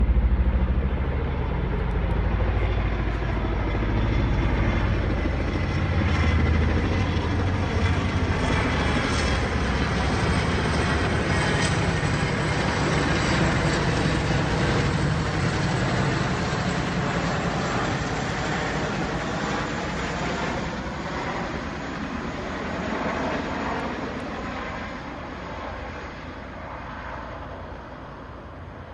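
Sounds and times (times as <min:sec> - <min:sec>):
helicopter rotor chop: 0:00.0 - 0:28.8.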